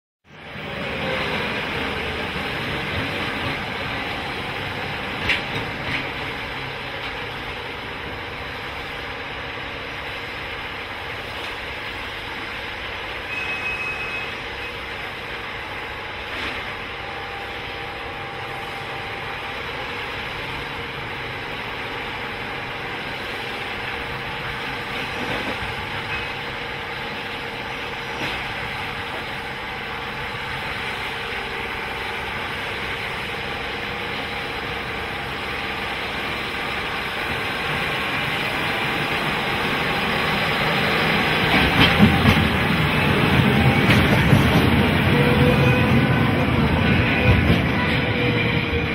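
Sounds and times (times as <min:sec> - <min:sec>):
train machinery and engines running: 0:00.2 - 0:48.9.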